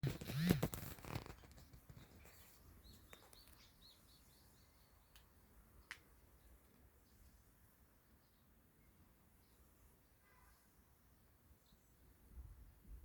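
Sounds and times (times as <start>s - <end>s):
quiet forest background: 0.0s - 13.0s
rustle: 0.0s - 13.0s.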